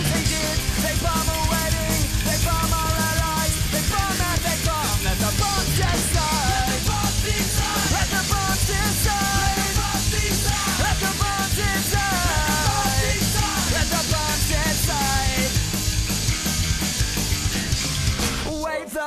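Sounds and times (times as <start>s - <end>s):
instrumental punk rock music: 0.0s - 19.0s.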